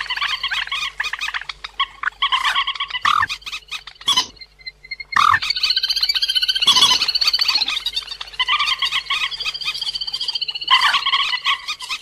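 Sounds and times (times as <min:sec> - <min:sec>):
rapid high chattering bird calls: 0:00.0 - 0:12.0.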